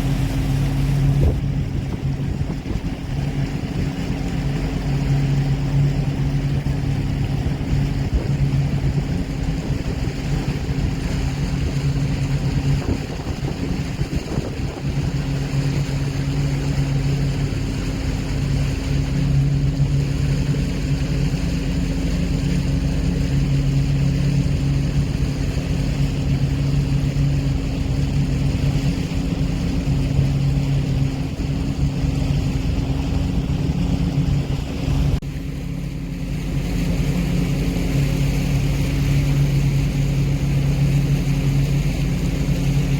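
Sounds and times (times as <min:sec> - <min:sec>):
engine droning: 0:00.0 - 0:42.9
wind on microphone: 0:00.0 - 0:42.9.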